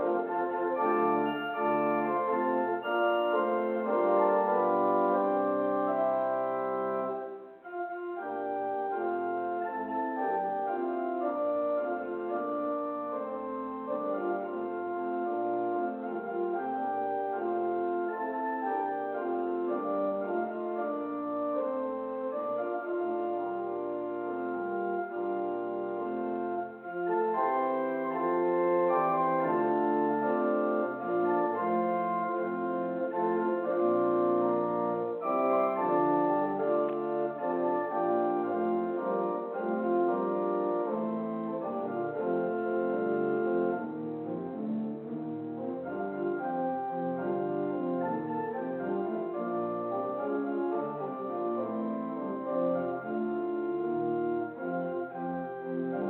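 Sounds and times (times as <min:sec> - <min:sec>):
organ-like church prelude music: 0:00.0 - 0:56.0.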